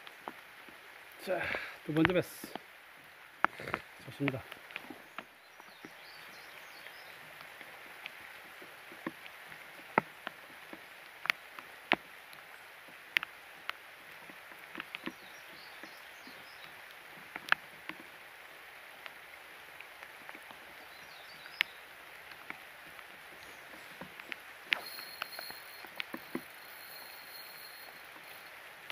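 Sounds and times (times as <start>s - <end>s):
rain hiss: 0.0s - 28.9s
raindrops tapping near microphone: 0.0s - 28.9s.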